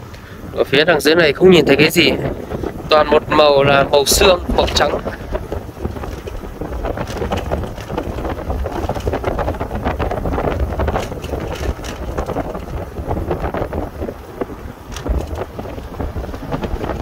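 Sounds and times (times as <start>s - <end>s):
wind buffeting microphone: 0.0s - 17.0s
vehicle rumbling on gravel road: 2.2s - 17.0s.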